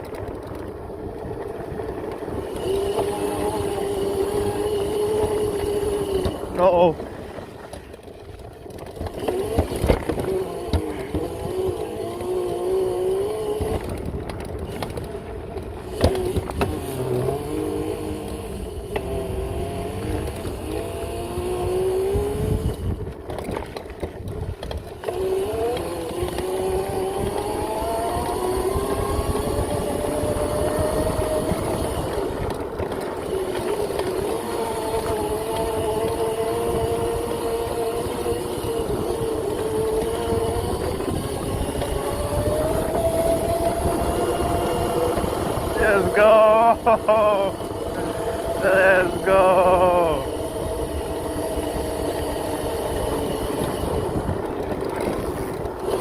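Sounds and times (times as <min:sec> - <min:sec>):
electric motorbike motor whine: 0:00.0 - 0:56.0.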